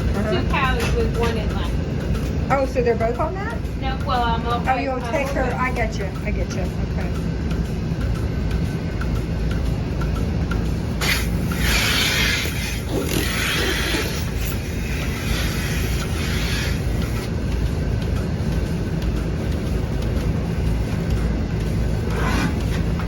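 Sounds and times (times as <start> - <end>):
vacuum system drone: 0.0 - 23.0.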